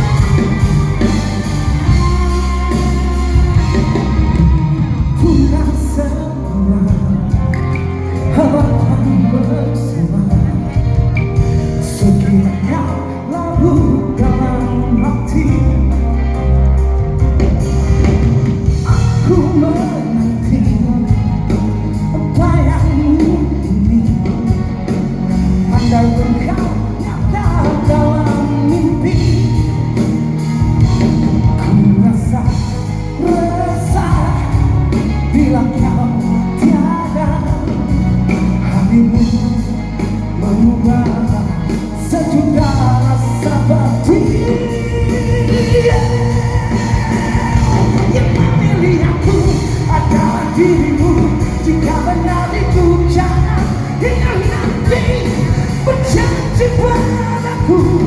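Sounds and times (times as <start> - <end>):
live band with singer: 0.0 - 58.0.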